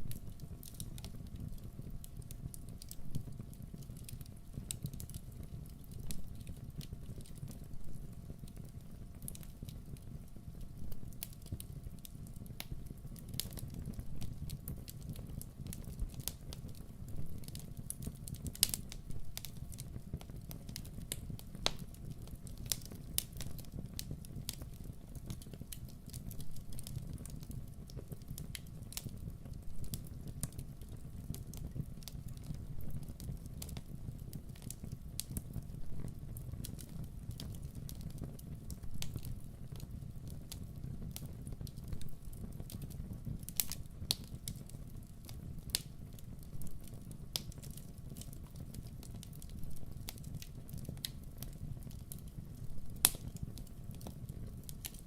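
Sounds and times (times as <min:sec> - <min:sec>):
burning wood crackling and popping: 0:00.0 - 0:55.0
campfire burning: 0:00.0 - 0:55.0.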